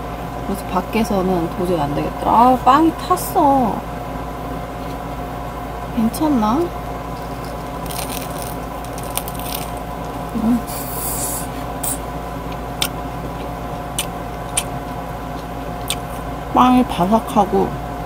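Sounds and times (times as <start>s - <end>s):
car air conditioner humming: 0.0s - 18.0s.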